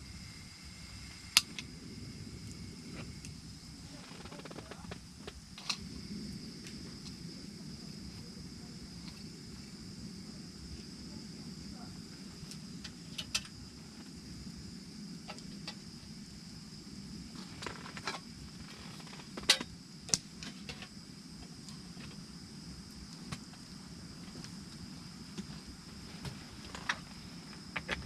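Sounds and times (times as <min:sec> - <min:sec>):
faint high whine: 0:00.0 - 0:28.0.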